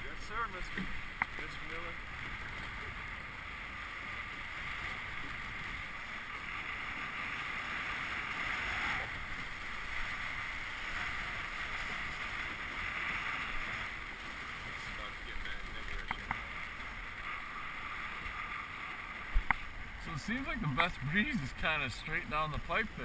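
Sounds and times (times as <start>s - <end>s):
water rushing along a boat hull: 0.0s - 23.0s
wind: 0.0s - 23.0s.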